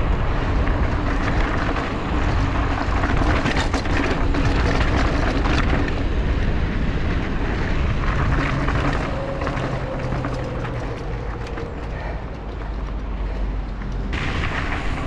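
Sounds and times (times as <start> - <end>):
bike rattling over rocky ground: 0.0 - 15.0
wind rumbling on microphone: 0.0 - 15.0.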